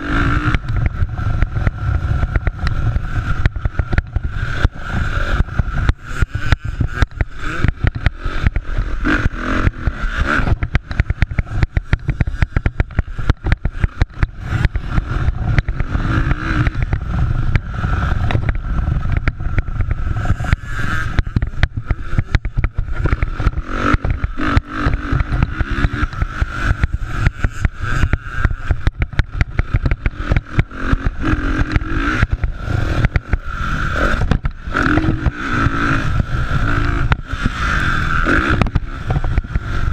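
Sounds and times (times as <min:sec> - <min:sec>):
microphone rumble and crackle: 0:00.0 - 0:39.9
motorcycle engines revving: 0:00.0 - 0:39.9.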